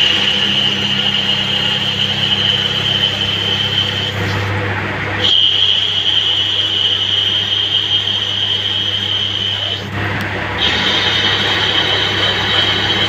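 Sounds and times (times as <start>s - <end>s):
high steady whine: 0.0s - 13.0s
lathe spindle humming: 0.0s - 13.0s.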